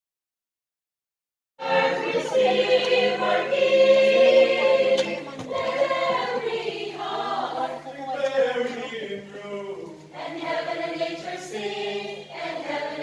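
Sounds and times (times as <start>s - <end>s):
choir singing a carol: 1.6s - 13.0s.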